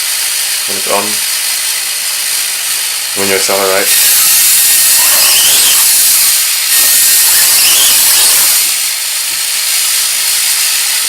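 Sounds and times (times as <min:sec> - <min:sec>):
electric rc car motor whirring: 0:00.0 - 0:11.0.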